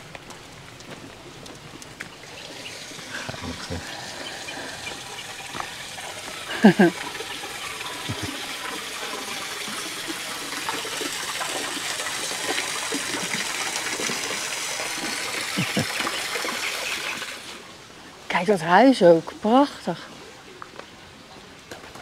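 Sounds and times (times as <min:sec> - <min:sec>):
fountain water splashing on stones: 0:00.0 - 0:20.7.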